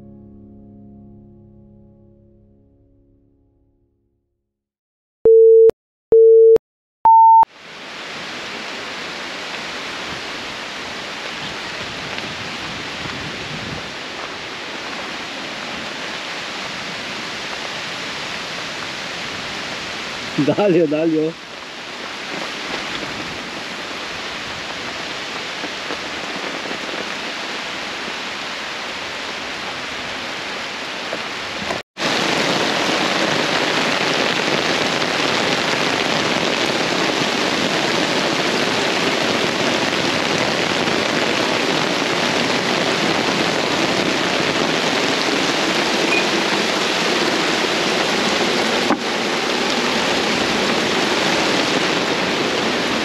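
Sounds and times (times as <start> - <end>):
heavy rain hissing: 7.6 - 53.0.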